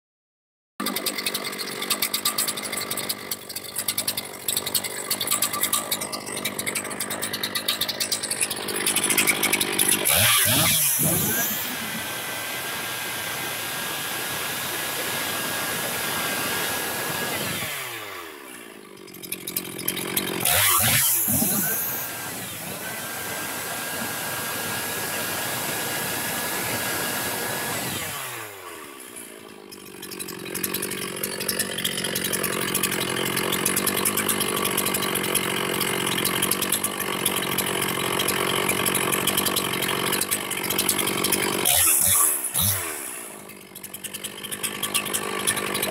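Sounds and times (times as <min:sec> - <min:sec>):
chainsaw idling and revving: 0:00.8 - 0:45.9.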